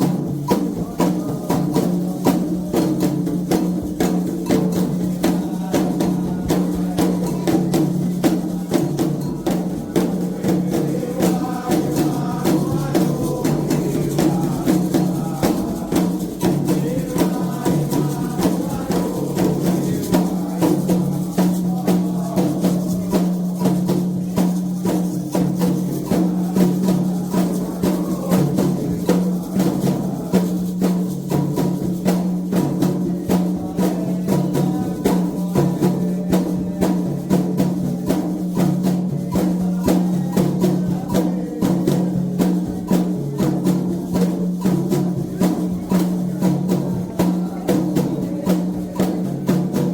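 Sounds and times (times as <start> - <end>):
hand drums beating fast rhythm: 0.0 - 49.9.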